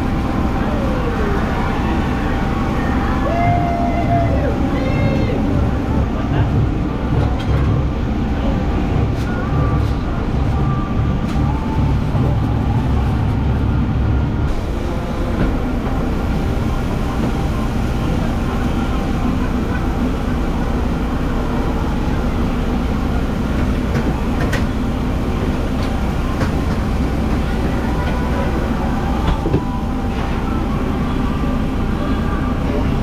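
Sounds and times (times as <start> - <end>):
vehicle road rumble: 0.0 - 33.0.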